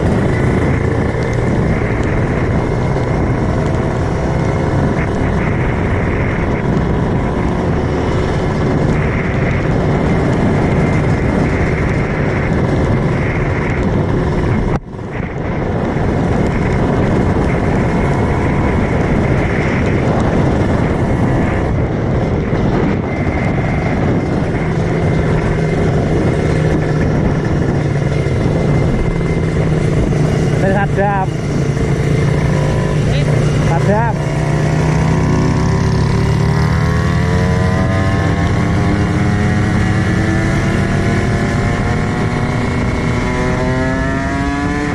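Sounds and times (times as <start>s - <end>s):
motorcycle engine running: 0.0s - 44.9s
road rush: 0.0s - 44.9s
wind: 0.0s - 44.9s.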